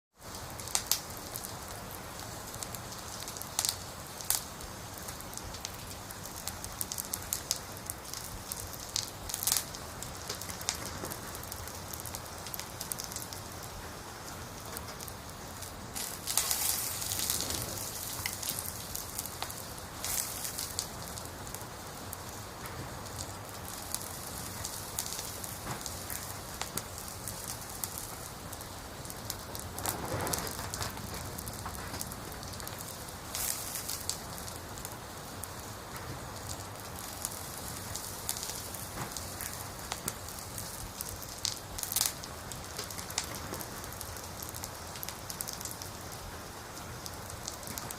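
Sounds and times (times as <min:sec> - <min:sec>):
rain on a hard surface: 0:00.1 - 0:47.9.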